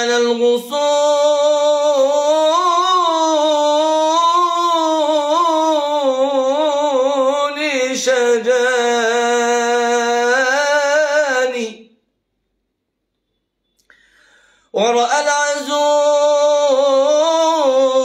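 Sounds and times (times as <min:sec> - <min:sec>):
man singing unaccompanied: 0:00.0 - 0:12.0, 0:14.7 - 0:18.0.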